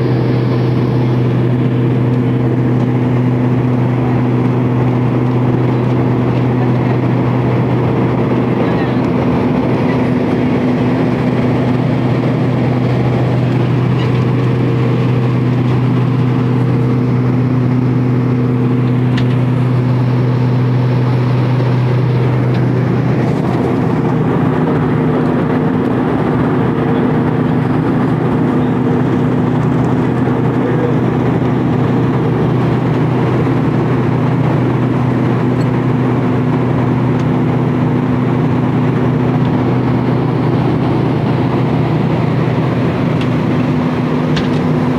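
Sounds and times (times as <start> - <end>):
airliner engine drone: 0.0 - 44.9.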